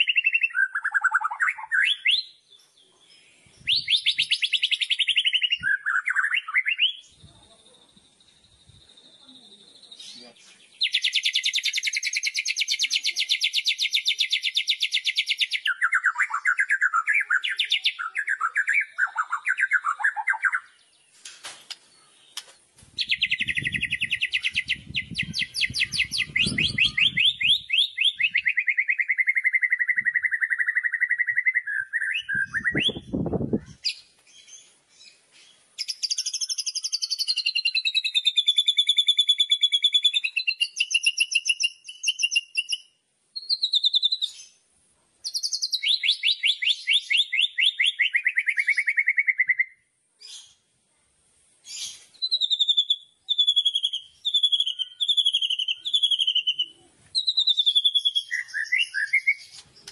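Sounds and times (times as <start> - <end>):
songbird whistled phrases: 0.0 - 2.4, 3.5 - 7.3, 7.9 - 20.8, 23.0 - 35.1, 35.8 - 44.5, 45.3 - 50.6, 51.7 - 59.9.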